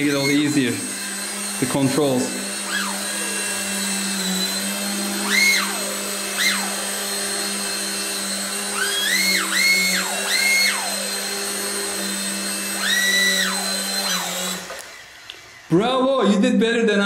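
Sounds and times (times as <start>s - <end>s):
electric motor whine: 0.0s - 16.2s
rc helicopter rotor hum: 0.0s - 16.2s.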